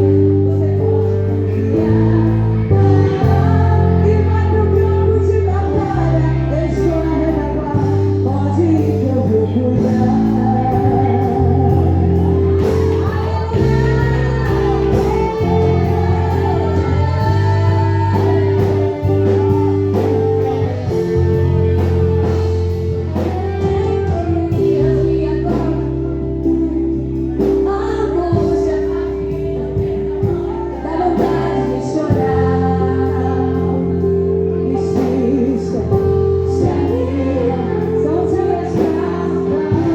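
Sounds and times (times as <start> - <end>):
held bass notes: 0.0 - 39.9
singing over a band: 0.0 - 39.9.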